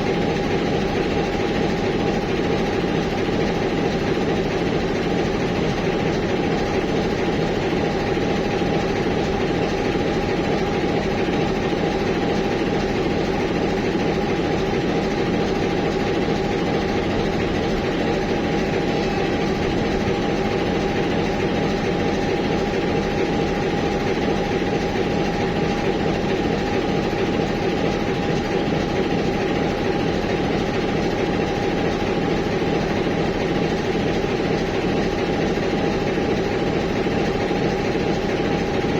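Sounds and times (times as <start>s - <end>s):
diesel locomotive engine idling: 0.0s - 38.9s.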